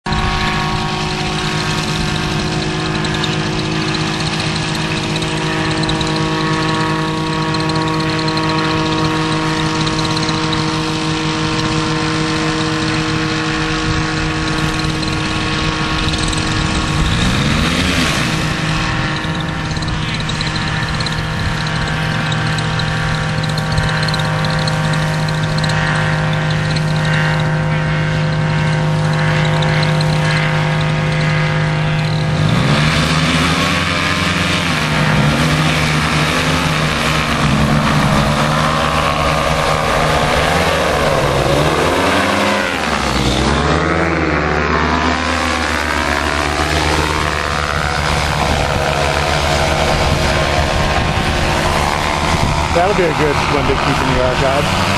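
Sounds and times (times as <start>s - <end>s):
paramotor engine and propeller: 0.0s - 54.9s.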